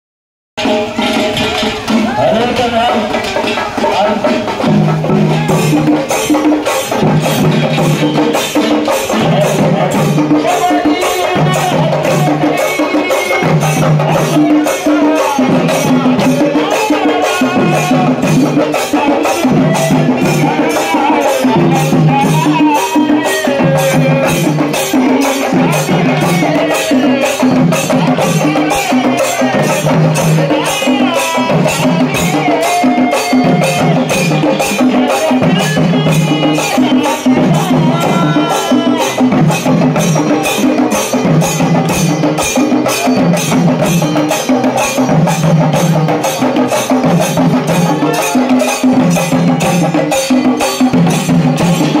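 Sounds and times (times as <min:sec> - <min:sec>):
drum ensemble beating fast rhythm: 0:00.6 - 0:52.0.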